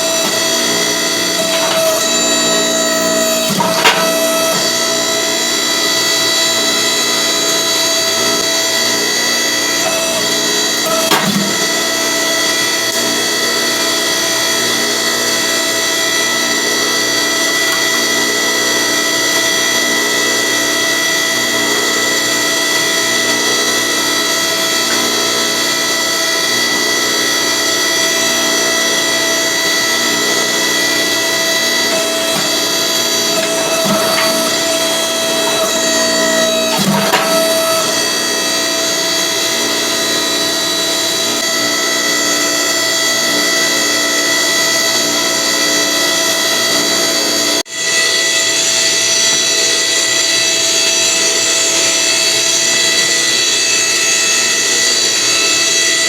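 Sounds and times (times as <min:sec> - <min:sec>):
shop machine motor drone: 0:00.0 - 0:56.0.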